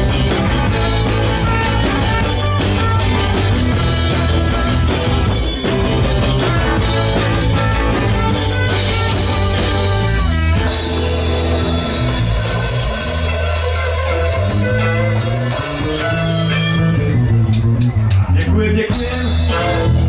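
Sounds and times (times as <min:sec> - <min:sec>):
trumpet: 0:00.0 - 0:17.1, 0:19.0 - 0:20.0
bass line: 0:00.0 - 0:20.0
drums: 0:00.0 - 0:20.0
electric guitar: 0:00.0 - 0:20.0.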